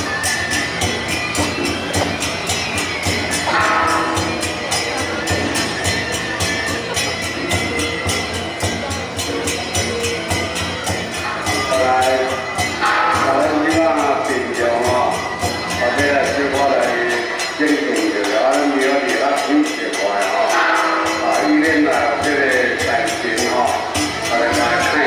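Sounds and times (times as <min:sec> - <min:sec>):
cymbals beating: 0:00.0 - 0:25.0
drums beating: 0:00.0 - 0:25.0.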